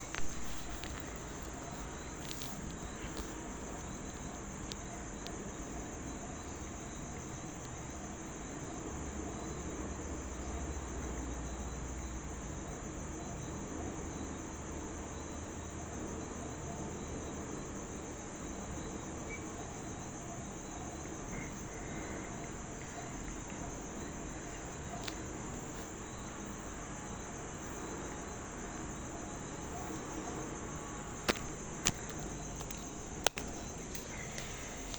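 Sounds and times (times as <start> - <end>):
insect stridulating buzz: 0.0 - 34.9.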